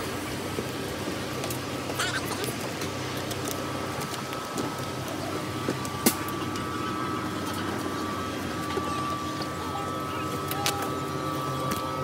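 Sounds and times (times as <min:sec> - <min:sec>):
airliner cabin hum: 0:00.0 - 0:12.0
high whine: 0:00.0 - 0:12.0.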